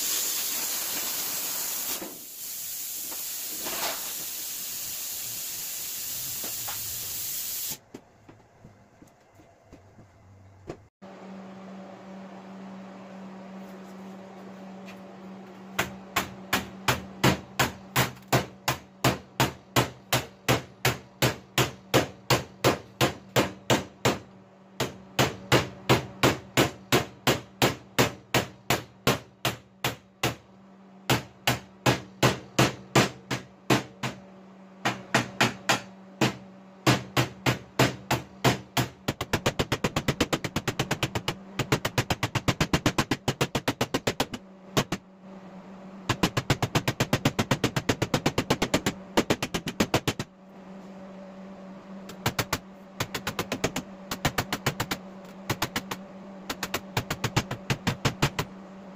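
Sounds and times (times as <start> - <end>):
steady low hum: 7.7 - 58.9.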